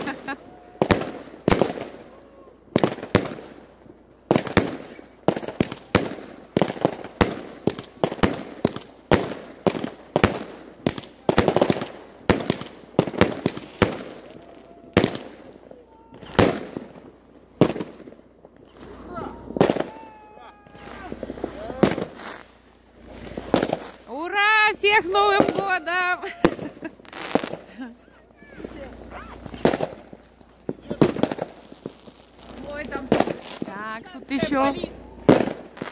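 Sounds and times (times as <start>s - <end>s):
fireworks bursting: 0.0s - 35.9s.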